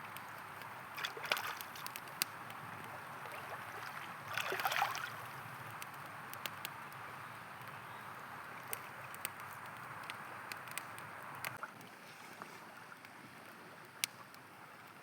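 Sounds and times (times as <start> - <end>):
campfire crackling: 0.0 - 15.0
river water flowing: 0.0 - 15.0.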